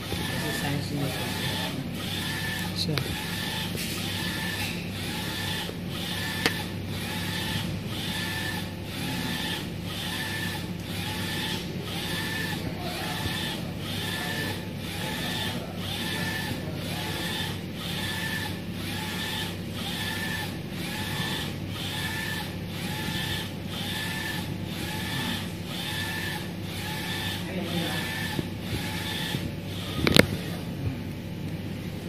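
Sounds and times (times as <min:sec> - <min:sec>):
printer carriage shuttling with whine: 0:00.0 - 0:32.0
steady machine hum: 0:00.0 - 0:32.0.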